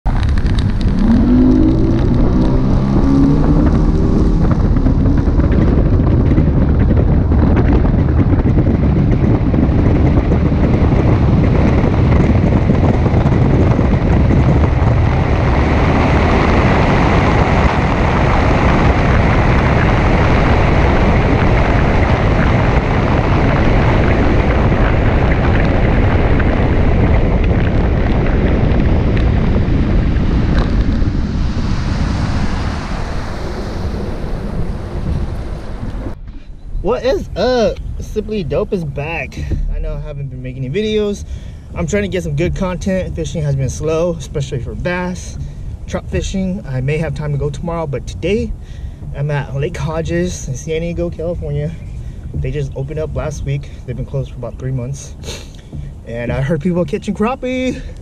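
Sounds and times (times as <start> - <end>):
vehicle engine running: 0.0 - 58.0
wind noise on microphone: 0.0 - 58.0.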